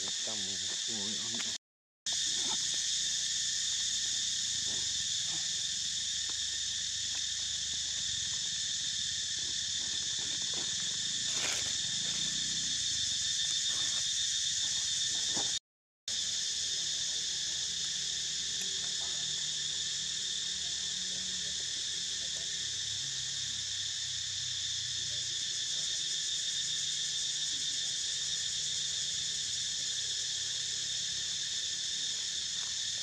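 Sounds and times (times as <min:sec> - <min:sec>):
insect chorus buzzing: 0:00.0 - 0:33.0.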